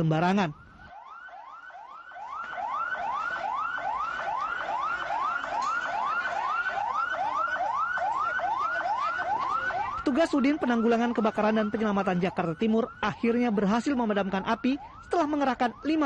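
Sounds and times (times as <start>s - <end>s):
fire engine siren yelping: 0.1s - 16.0s.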